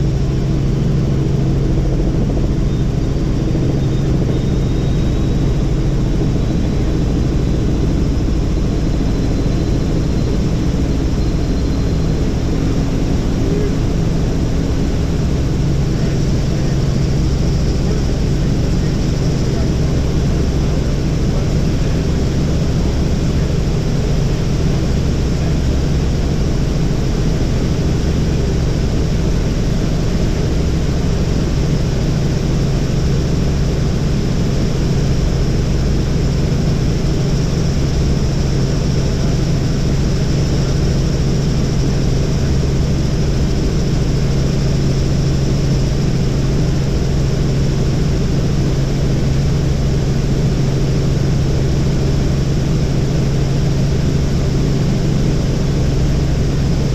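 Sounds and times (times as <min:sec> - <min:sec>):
helicopter engine and rotor drone: 0:00.0 - 0:56.9.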